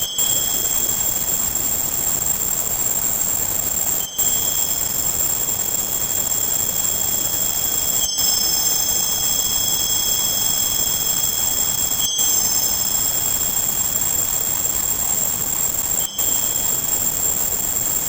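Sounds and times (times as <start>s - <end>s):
steady hiss-like noise: 0.0s - 18.0s
thin steady high tones: 0.0s - 18.0s.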